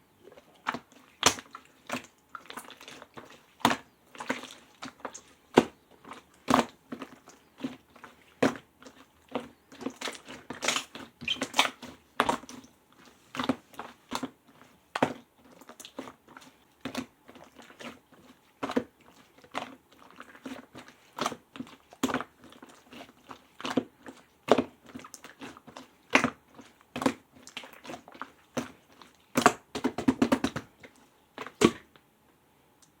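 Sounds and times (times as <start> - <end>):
slime squished by hand: 0.3 - 31.9.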